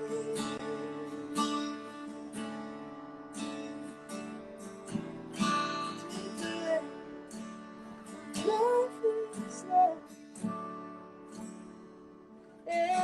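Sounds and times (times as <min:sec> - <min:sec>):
acoustic guitar strummed slowly: 0:00.0 - 0:13.0.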